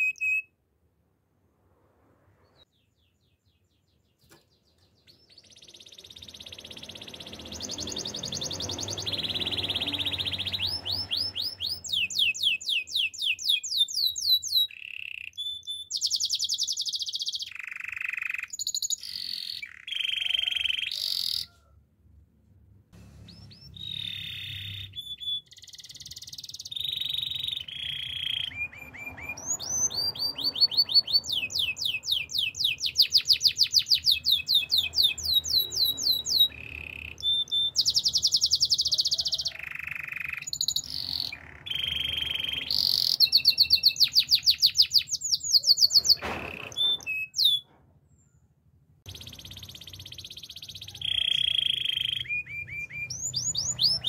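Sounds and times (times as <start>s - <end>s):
canary singing trills: 0.0s - 0.5s, 2.5s - 21.6s, 23.1s - 47.7s, 49.1s - 54.0s.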